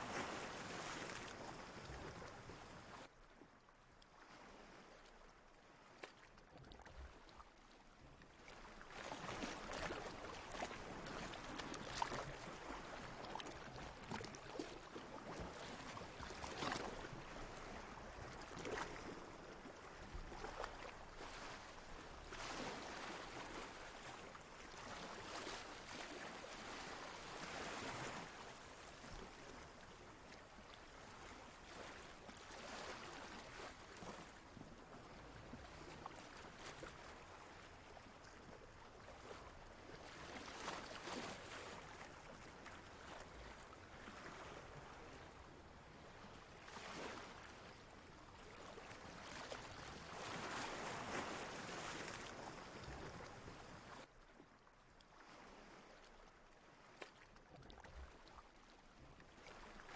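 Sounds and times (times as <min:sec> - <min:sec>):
ocean water lapping: 0:00.0 - 0:03.5, 0:04.1 - 0:59.9.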